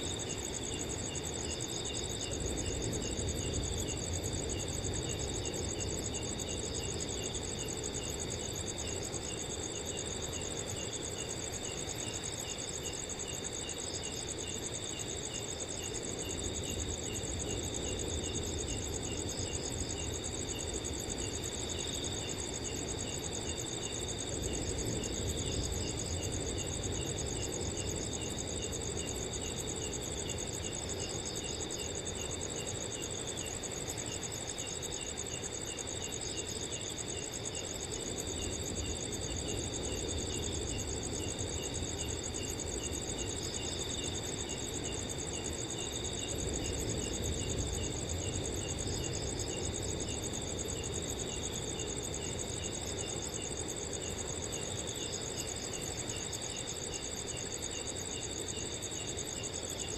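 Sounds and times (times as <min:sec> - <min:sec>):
crickets chirping: 0:00.0 - 0:59.9
low rush of wind: 0:00.0 - 0:59.9.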